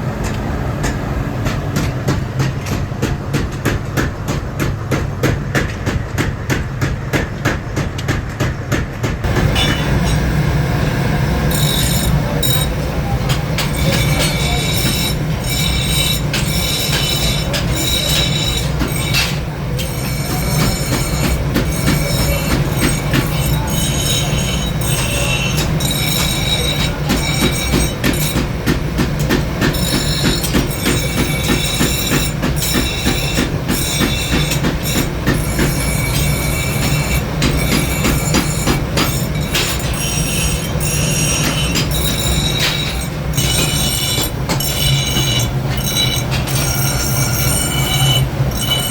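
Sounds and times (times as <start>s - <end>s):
hammer striking steel: 9.2s - 48.9s
steady low hum: 9.2s - 48.9s.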